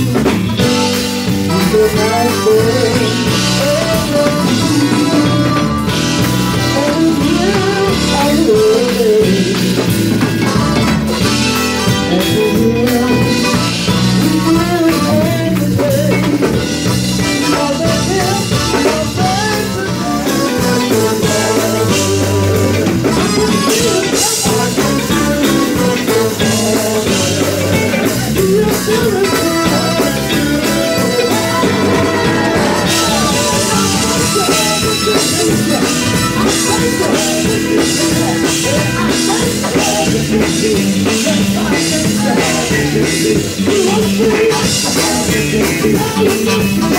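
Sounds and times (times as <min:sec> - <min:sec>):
drum kit: 0:00.0 - 0:46.9
electric guitar: 0:00.0 - 0:46.9
male vocal group singing gospel: 0:00.0 - 0:46.9.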